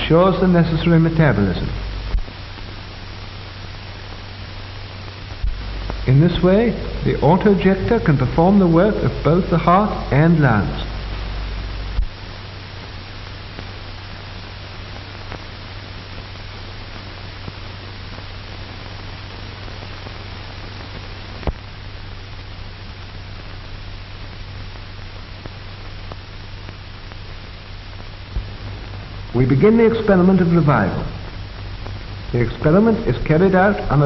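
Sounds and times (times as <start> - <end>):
film soundtrack hiss and hum: 0.0 - 34.0.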